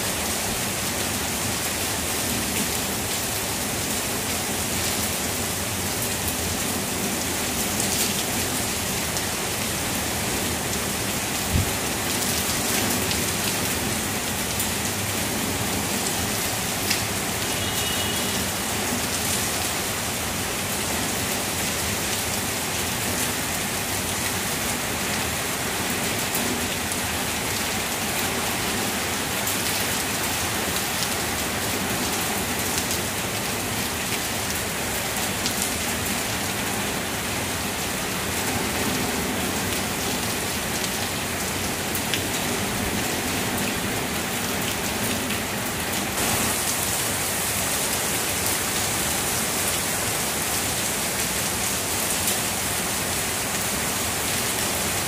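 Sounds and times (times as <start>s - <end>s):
heavy rain through foliage: 0.0s - 55.0s.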